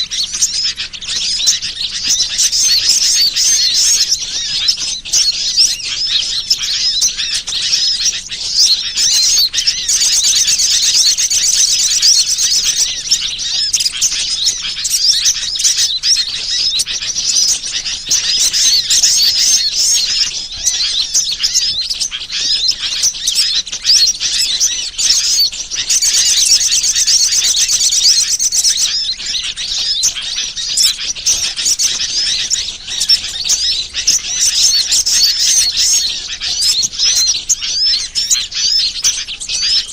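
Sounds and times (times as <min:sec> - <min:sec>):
fast bird trill: 0:00.0 - 0:39.9
small birds chirping: 0:00.0 - 0:39.9.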